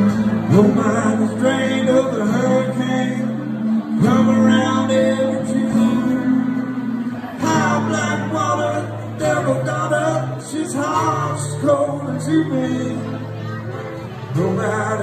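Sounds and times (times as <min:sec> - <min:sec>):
lap slide guitar: 0:00.0 - 0:15.0
strummed acoustic guitar: 0:00.0 - 0:15.0.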